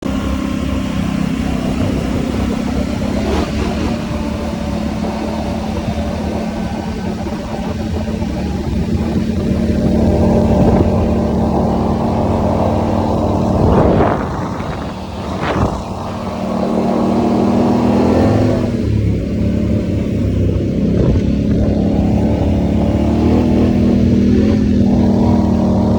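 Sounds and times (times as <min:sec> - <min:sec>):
atv engine running: 0:00.0 - 0:25.9.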